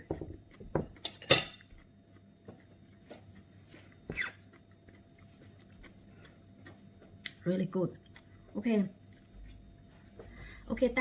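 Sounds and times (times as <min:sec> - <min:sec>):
faint chewing: 0:00.0 - 0:10.7.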